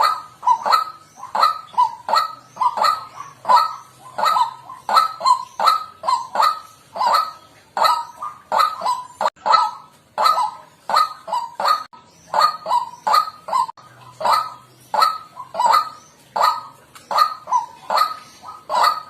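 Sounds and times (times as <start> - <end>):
waterhen harsh calls: 0.0 - 19.0.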